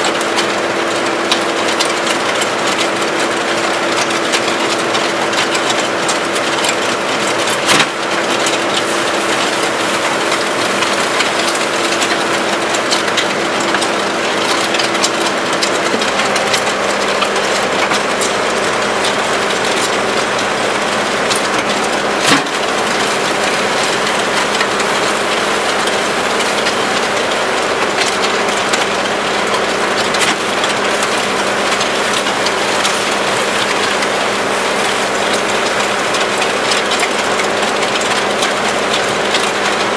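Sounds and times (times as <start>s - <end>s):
auger churning wet concrete: 0.0s - 39.9s
skid steer engine running: 0.0s - 39.9s.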